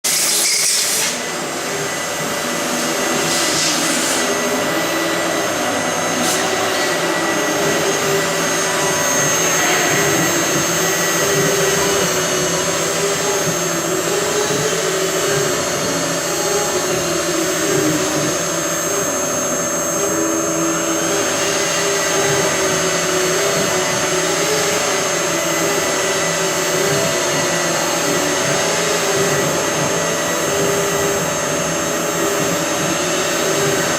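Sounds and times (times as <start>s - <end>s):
router spindle whining: 0.1s - 33.9s
low wavering machine tone: 1.2s - 33.9s.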